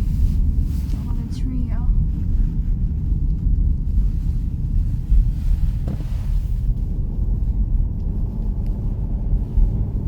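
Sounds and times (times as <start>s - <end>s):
engine and tyre rumble: 0.0s - 10.0s.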